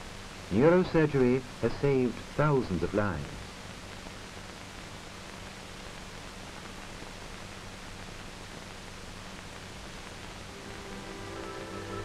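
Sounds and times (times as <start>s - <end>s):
film soundtrack hiss: 0.0s - 12.0s
low steady hum: 0.0s - 12.0s.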